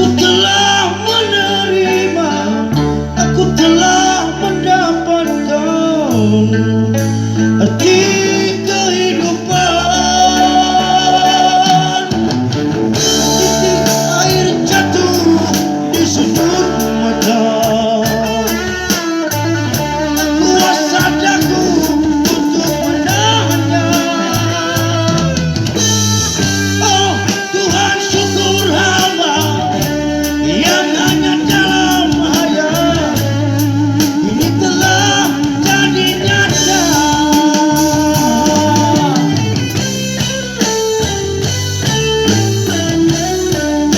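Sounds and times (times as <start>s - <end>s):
band music with guitar and bass: 0.0s - 43.9s
person singing: 0.0s - 43.9s.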